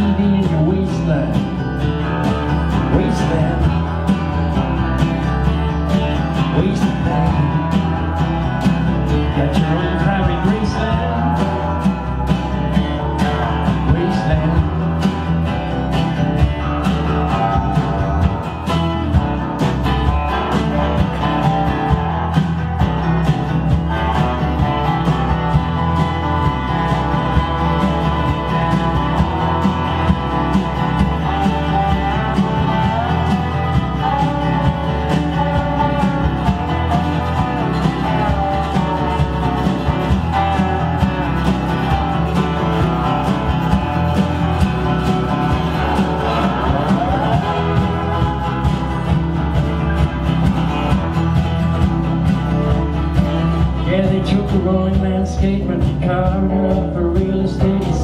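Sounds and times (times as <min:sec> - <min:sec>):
keyboard playing: 0:00.0 - 0:54.2
folk-country band playing: 0:00.0 - 0:58.0
slide guitar gliding: 0:00.0 - 0:58.0.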